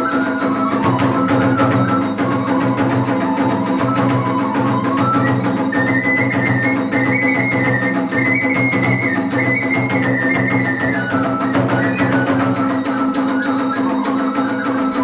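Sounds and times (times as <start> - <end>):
bamboo flute melody: 0.0 - 15.0
continuous drumming: 0.0 - 15.0
hand cymbals: 0.0 - 15.0.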